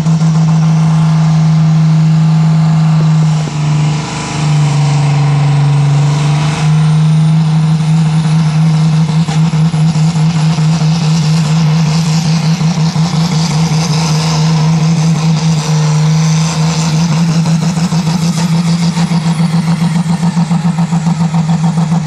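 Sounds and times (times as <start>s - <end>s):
tractor diesel engine at full throttle: 0.0s - 22.0s.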